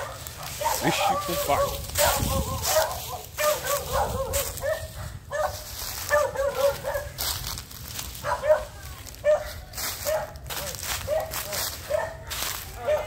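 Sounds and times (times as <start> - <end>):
dog yapping: 0.0 - 7.1, 8.2 - 9.5, 10.1 - 12.2, 12.8 - 13.0.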